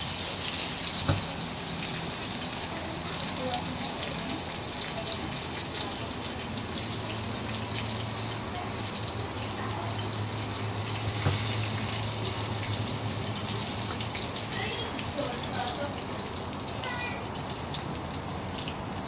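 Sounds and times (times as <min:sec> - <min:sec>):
crickets sizzling in a pan: 0:00.0 - 0:19.0.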